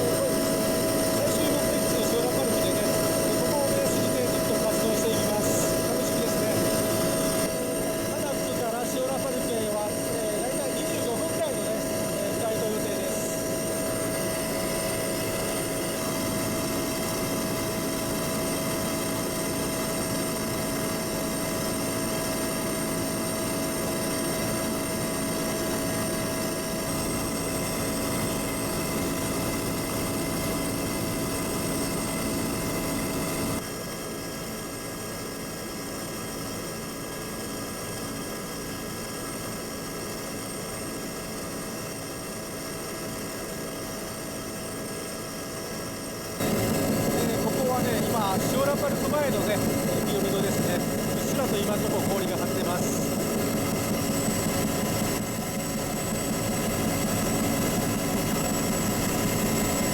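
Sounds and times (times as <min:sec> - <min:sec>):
aircraft engine drone in cabin: 0:00.0 - 0:59.9.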